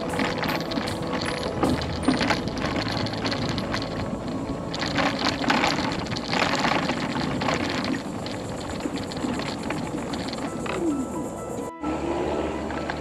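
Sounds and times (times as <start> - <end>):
mobility scooter motor hum: 0.0 - 13.0
wheels and frame rattling: 0.0 - 13.0.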